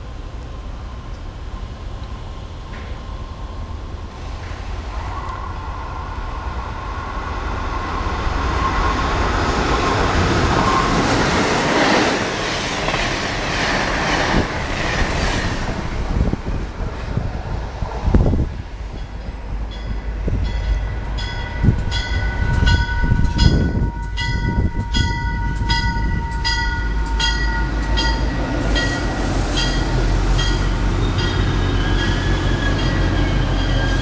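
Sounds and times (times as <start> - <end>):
train passing with whine: 0.0 - 34.0.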